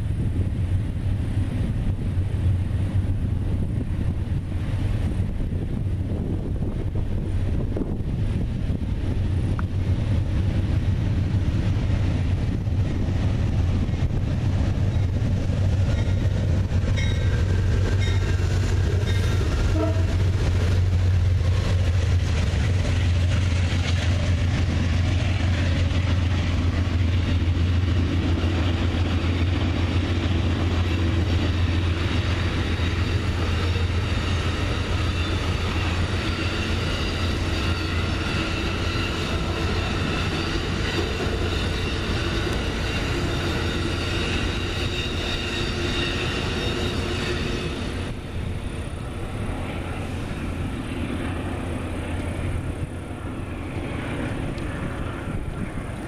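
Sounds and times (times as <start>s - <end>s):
passenger train rumbling: 0.0s - 56.0s
wheel-on-rail noise: 0.0s - 56.0s.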